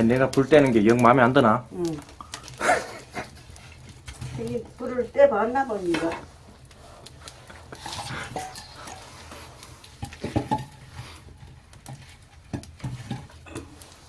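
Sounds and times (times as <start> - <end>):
firewood knocking and clattering: 0.0 - 14.0.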